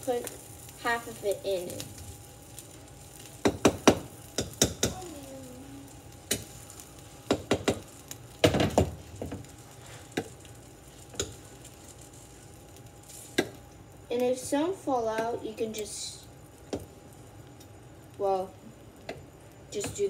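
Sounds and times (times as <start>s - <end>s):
faint sizzle: 0.0s - 20.0s.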